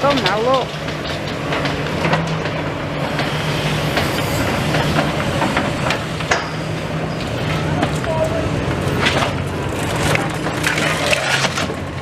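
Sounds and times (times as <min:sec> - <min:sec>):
clatter of metal and rubble: 0:00.0 - 0:12.0.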